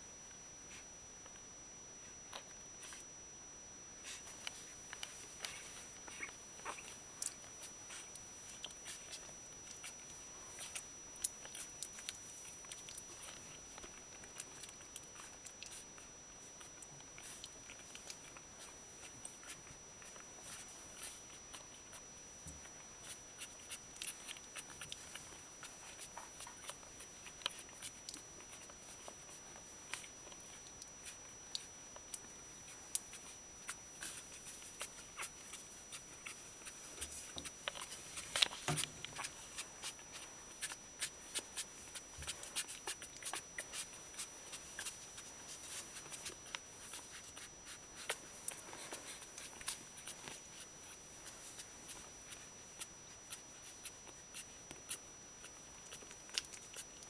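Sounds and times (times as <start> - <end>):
small clicks and rustles: 0.2 - 57.0
puppies stirring: 4.0 - 57.0.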